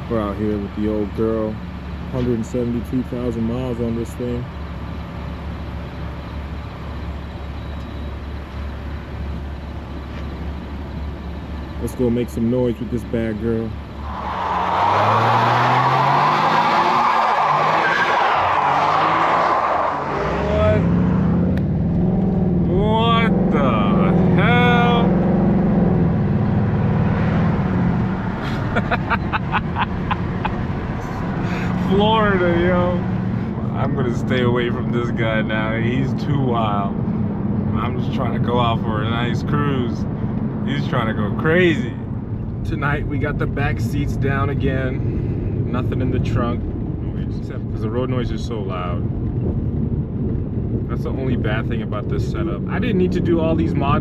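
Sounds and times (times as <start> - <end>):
car engine droning at low revs: 0.0 - 54.0.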